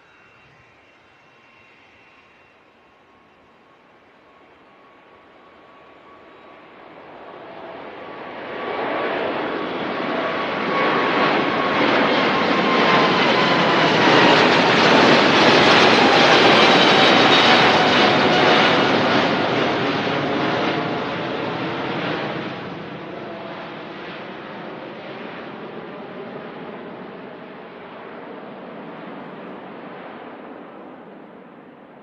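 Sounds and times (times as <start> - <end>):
jet airliner roaring past: 0.0 - 32.0
jet engine whine: 0.0 - 32.0.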